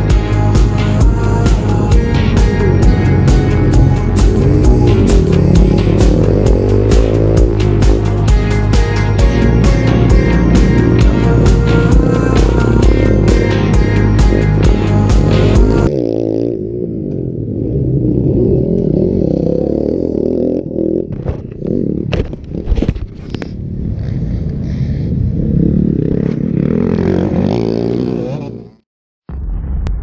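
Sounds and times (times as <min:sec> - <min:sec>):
motorcycle engines revving: 0:00.0 - 0:28.8.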